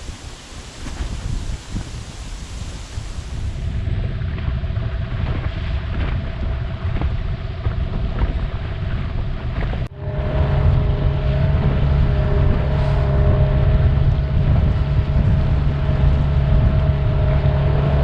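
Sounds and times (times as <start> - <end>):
boat motor rumbling: 0.0 - 18.0
wind on microphone: 0.0 - 18.0.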